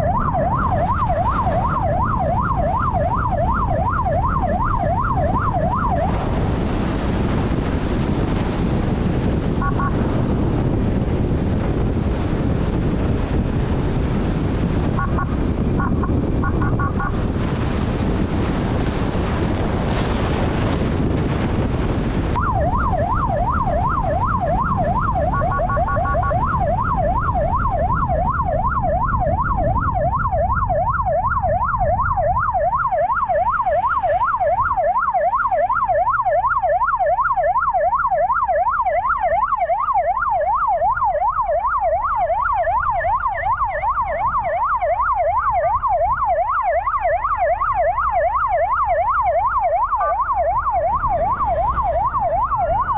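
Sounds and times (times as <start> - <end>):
motorcycle siren wailing: 0.0 - 52.9
rushing wind noise: 0.0 - 52.9.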